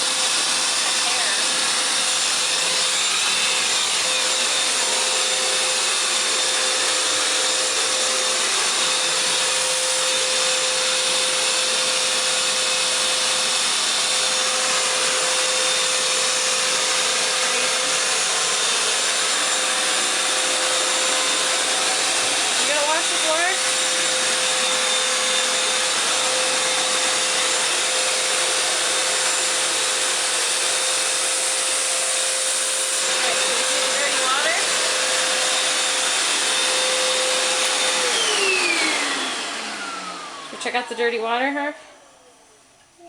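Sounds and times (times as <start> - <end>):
floor washer suction motor: 0.0 - 43.0.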